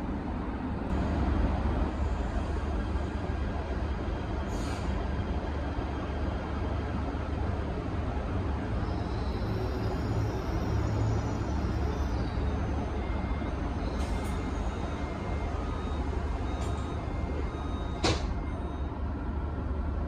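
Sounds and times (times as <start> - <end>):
train interior rumble and hum: 0.0 - 20.0.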